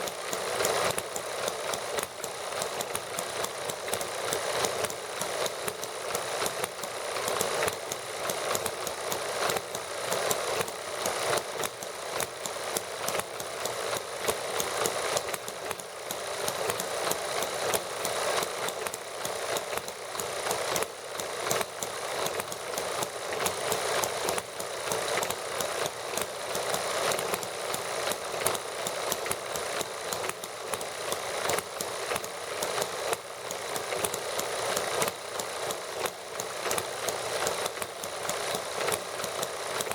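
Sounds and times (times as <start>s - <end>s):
small model engines running: 0.0s - 39.9s.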